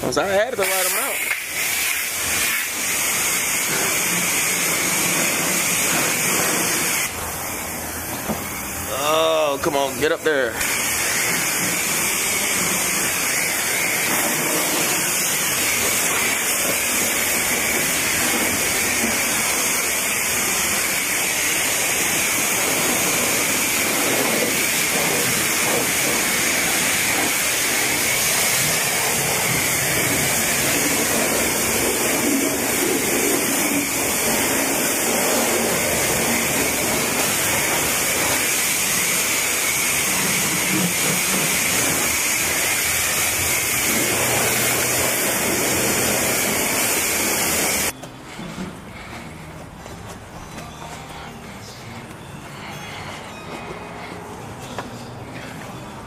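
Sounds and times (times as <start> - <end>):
pressure washer spraying water: 0.0 - 48.0.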